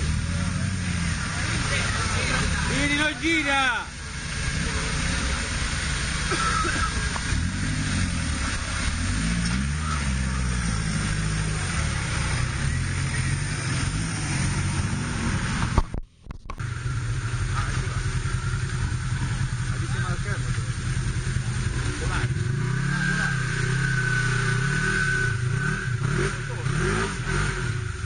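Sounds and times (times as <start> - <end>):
engine idling: 0.0 - 15.9, 16.5 - 24.6
car engine revving: 0.0 - 16.0, 16.6 - 28.0.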